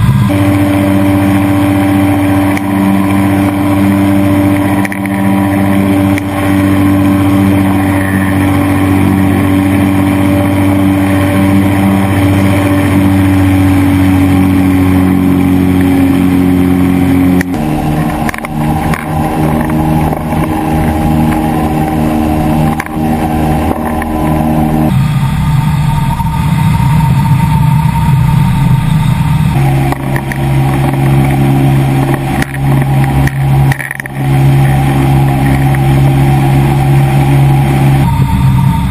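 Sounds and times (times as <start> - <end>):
ultralight engine and propeller droning: 0.0 - 38.9.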